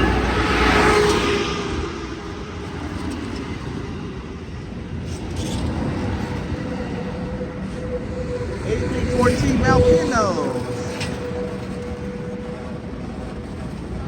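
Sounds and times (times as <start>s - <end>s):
passenger train rumbling past: 0.0s - 14.0s.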